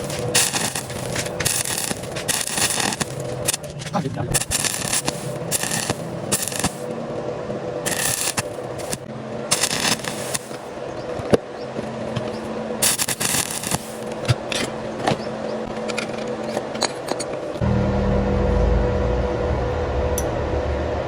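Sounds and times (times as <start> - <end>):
welding arc crackling: 0.0 - 7.2, 7.8 - 17.6
steady low hum: 0.0 - 21.0.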